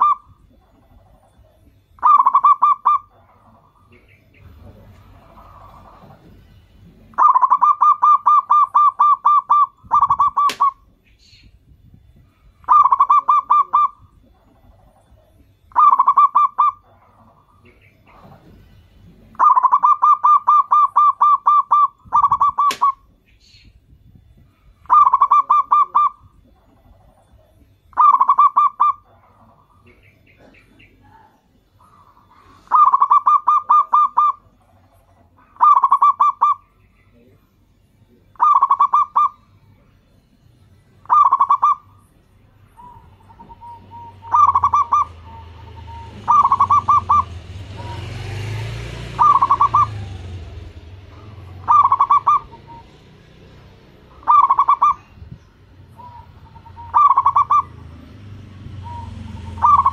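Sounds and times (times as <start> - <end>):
dove cooing: 0.0 - 11.4, 12.2 - 23.8, 24.6 - 37.4, 38.2 - 59.9.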